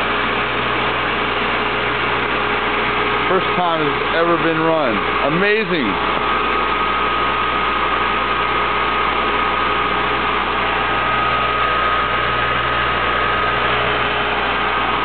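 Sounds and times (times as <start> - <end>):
electric motor humming and whirring: 0.0 - 15.0
high-pitched whine: 0.0 - 15.0.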